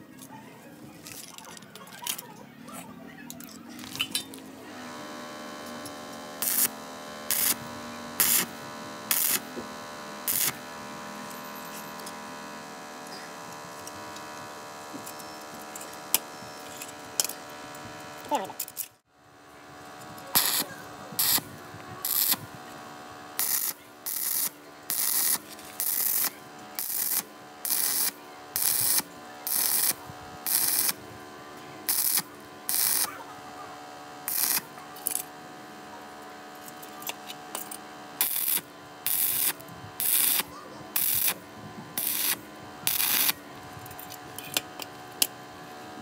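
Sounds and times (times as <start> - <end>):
steady hum: 0.0 - 46.0
welding arc crackling: 3.7 - 19.1, 19.8 - 46.0.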